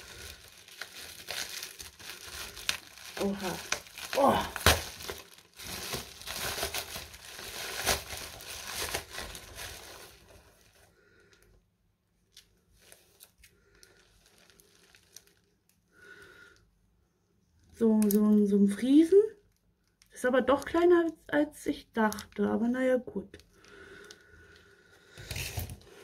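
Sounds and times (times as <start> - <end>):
plastic wrap crumpling and tearing: 0.0 - 11.3, 12.2 - 16.2, 18.9 - 26.0.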